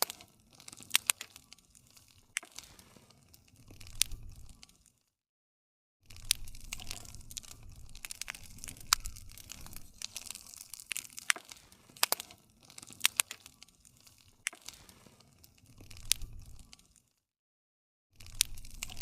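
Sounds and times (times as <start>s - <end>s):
campfire crackling: 0.0s - 5.0s, 6.1s - 17.2s, 18.2s - 19.0s.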